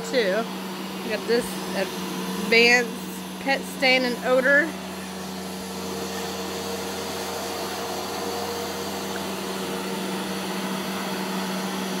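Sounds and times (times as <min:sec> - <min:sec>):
carpet shampooer motor hum: 0:00.0 - 0:12.0.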